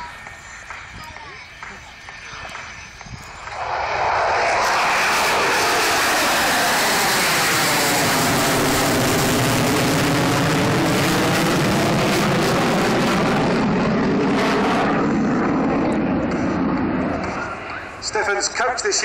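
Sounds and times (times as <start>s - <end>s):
fighter jet engine passing: 0.0s - 18.9s.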